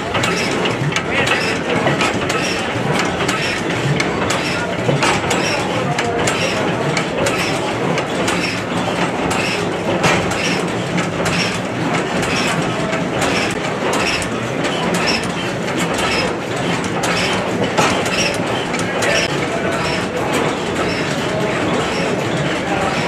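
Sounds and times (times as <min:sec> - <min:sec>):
stationary gas engine clattering: 0:00.0 - 0:23.0.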